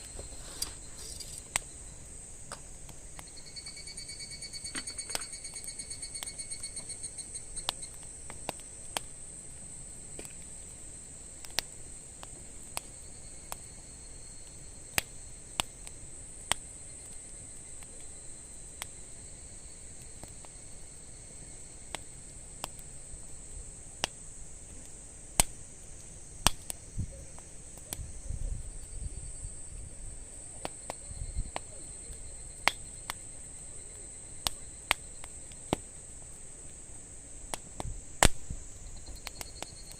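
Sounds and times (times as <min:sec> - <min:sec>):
campfire crackling: 0:00.0 - 0:39.9
insects trilling: 0:00.0 - 0:39.9.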